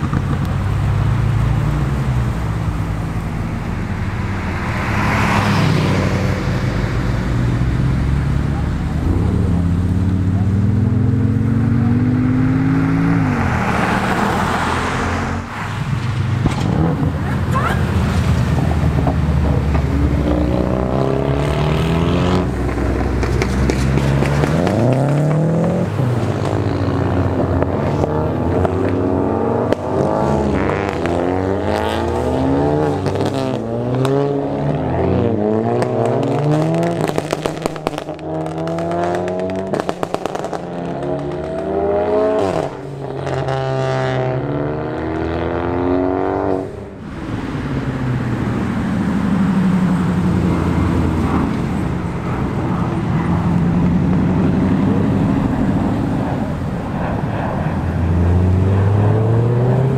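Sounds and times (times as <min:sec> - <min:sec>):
sports car engines revving: 0:00.0 - 0:59.9.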